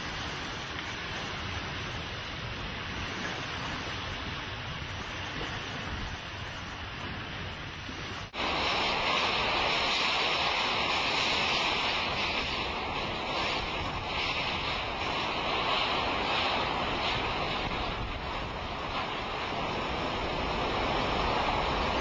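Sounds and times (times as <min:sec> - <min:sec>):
hurricane wind and driving rain: 0:00.0 - 0:22.0
wind and water rushing: 0:00.0 - 0:22.0.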